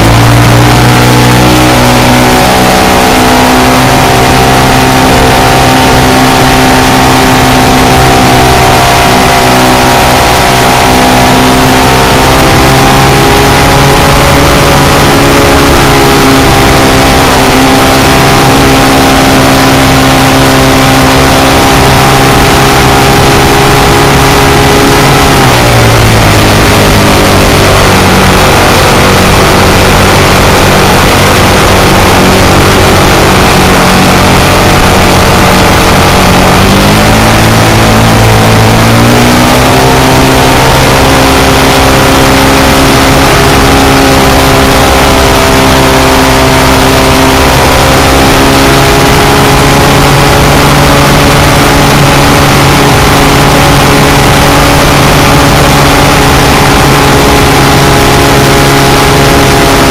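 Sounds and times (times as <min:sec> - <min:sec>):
airplane engine running: 0:00.0 - 0:59.9
wind rush on microphone: 0:00.0 - 0:59.9.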